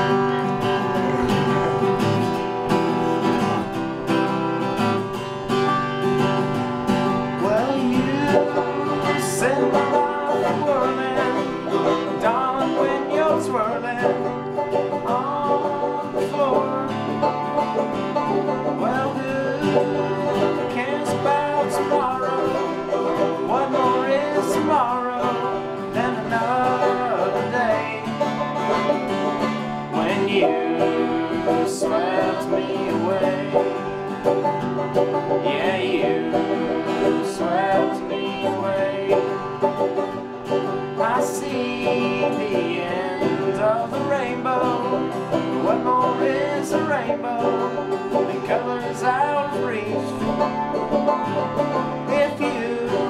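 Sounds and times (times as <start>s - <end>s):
young man singing: 0.0s - 2.2s, 7.4s - 28.7s, 29.9s - 34.1s, 35.4s - 39.7s, 41.0s - 50.6s, 52.0s - 53.0s
acoustic guitar strumming: 0.0s - 53.0s
banjo picking: 0.0s - 53.0s.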